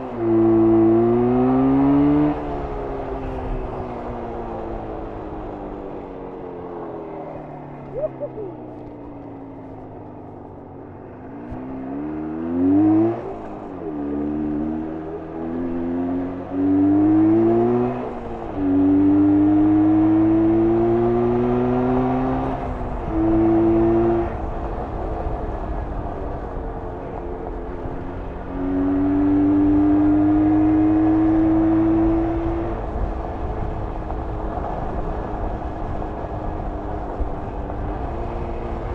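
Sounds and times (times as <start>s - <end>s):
motorcycle engine revving: 0.0s - 5.6s, 11.3s - 38.9s.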